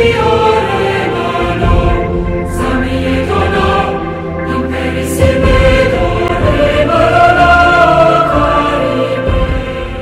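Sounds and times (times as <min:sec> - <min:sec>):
choir-like chanting music: 0:00.0 - 0:10.0.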